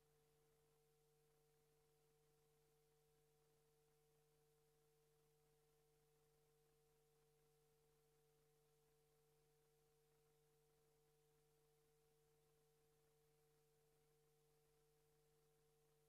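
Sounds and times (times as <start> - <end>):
faint steady hum and hiss: 0.0 - 16.0.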